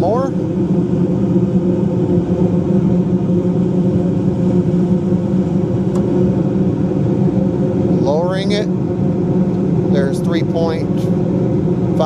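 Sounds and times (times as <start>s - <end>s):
gas furnace burner humming: 0.0s - 12.0s.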